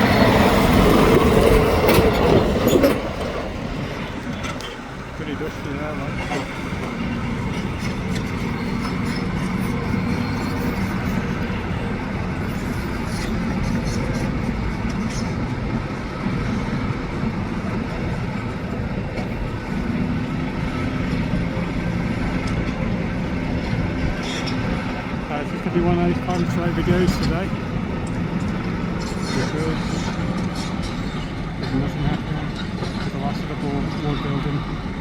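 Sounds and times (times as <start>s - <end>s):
large engine droning hum: 0.0s - 35.0s.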